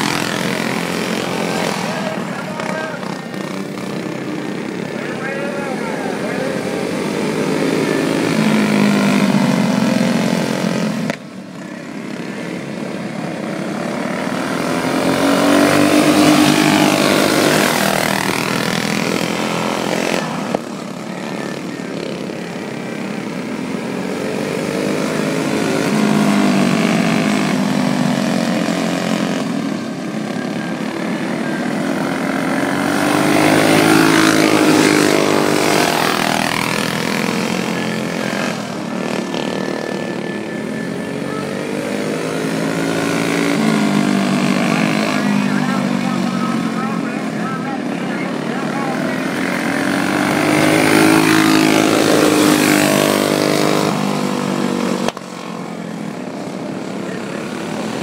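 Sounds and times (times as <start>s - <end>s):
go-kart engines racing past: 0.0s - 58.0s.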